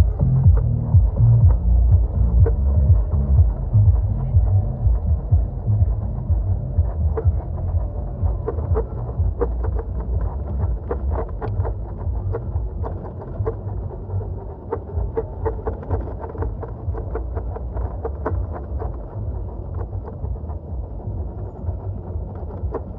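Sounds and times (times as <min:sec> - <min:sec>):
wind rumbling on microphone: 0:00.0 - 0:22.9.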